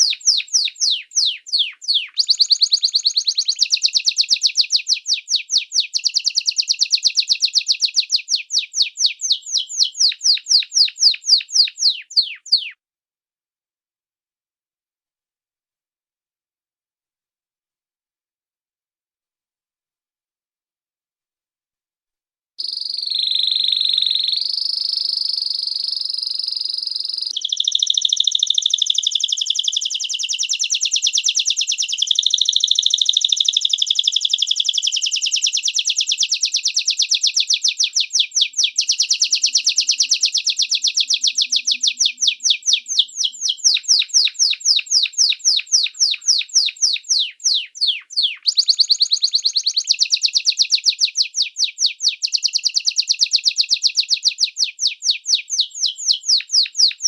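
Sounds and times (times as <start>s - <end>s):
songbird trilling and whistling: 0.0s - 12.8s, 22.6s - 57.0s.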